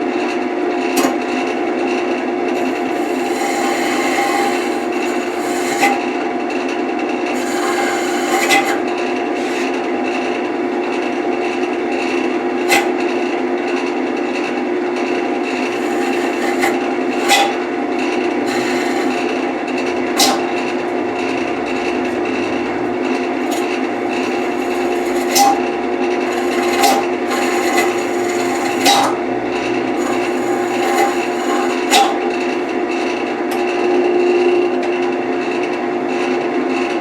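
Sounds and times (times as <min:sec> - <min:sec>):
wood lathe motor hum: 0:00.7 - 0:37.0
tool scraping spinning wood: 0:02.5 - 0:33.9.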